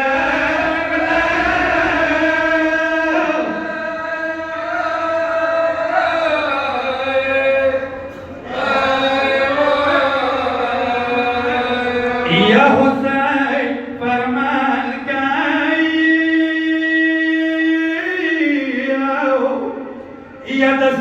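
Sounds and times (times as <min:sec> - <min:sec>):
man chanting a mourning lament: 0:00.0 - 0:21.0.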